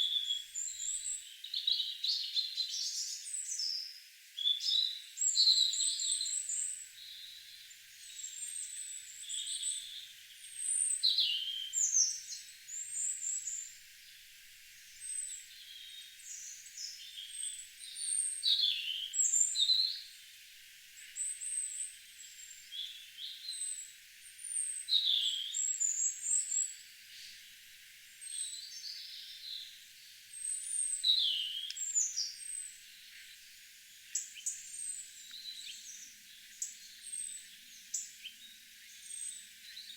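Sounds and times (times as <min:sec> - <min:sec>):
songbirds chirping and whistling: 0:00.0 - 0:13.8, 0:14.9 - 0:20.1, 0:21.0 - 0:27.4, 0:28.2 - 0:39.9.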